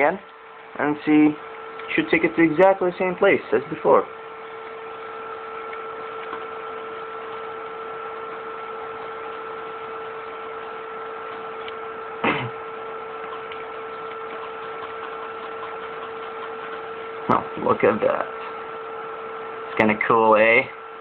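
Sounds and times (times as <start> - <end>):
stepper motors two-tone whine: 0.0 - 21.0.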